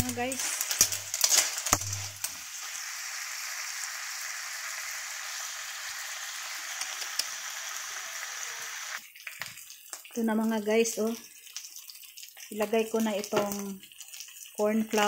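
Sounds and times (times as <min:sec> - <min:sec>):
clams sizzling in a wok: 0:00.0 - 0:13.9.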